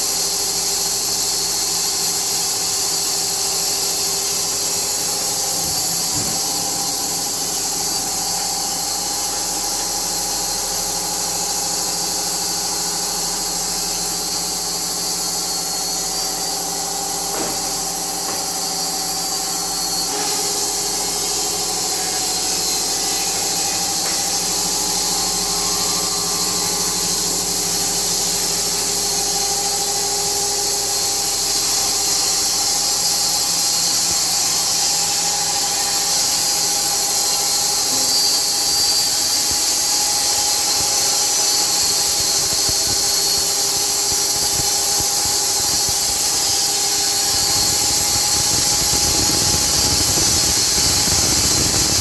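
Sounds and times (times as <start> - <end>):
sawmill hissing and whining: 0.0 - 52.0.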